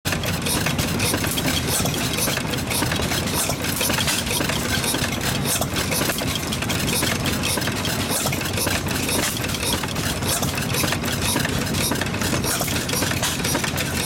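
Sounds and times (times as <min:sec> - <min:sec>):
engine clicks: 0:00.1 - 0:14.0
gas engine running: 0:00.1 - 0:14.0.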